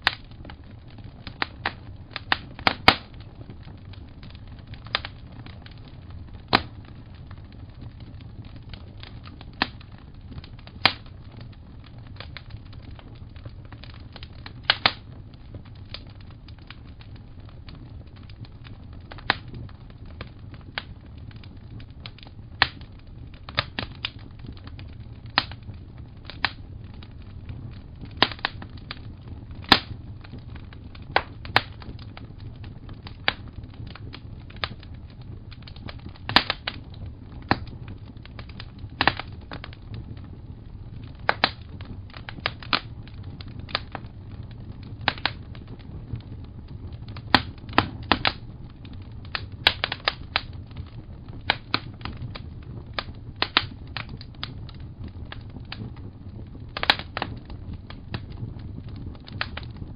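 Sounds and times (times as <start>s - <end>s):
fire crackling pops and snaps: 0.0s - 59.9s.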